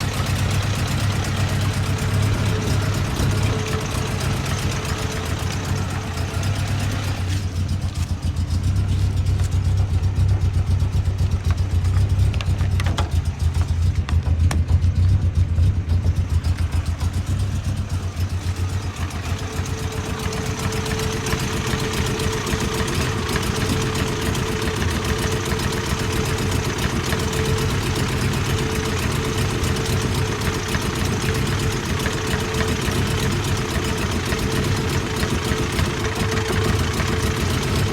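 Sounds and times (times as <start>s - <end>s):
engine idling roughly: 0.0s - 37.9s.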